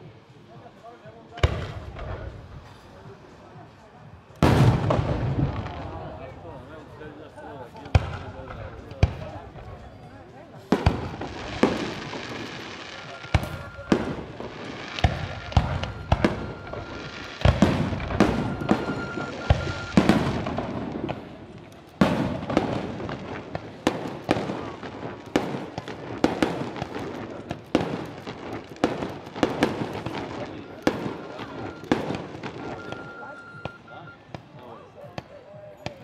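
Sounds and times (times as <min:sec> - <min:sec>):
fireworks crackling: 0:00.0 - 0:36.0
fireworks bangs: 0:01.4 - 0:03.2, 0:04.4 - 0:35.3.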